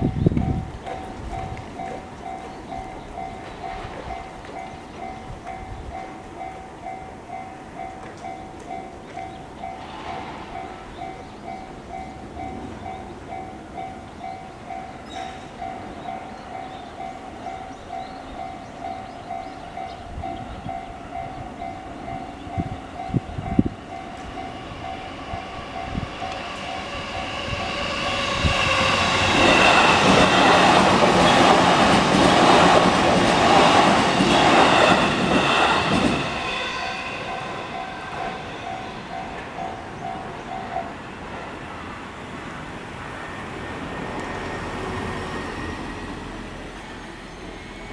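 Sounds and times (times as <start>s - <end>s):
train passing: 0.0s - 47.9s.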